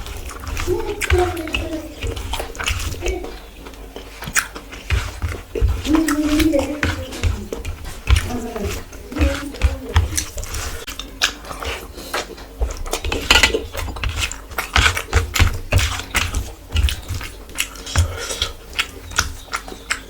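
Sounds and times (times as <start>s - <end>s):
person chewing with crunches: 0.0s - 20.0s.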